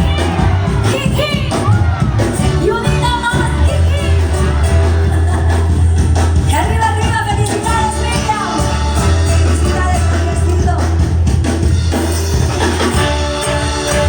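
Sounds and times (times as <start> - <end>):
band music with singing: 0.0 - 14.0
deep bass line: 0.0 - 14.0.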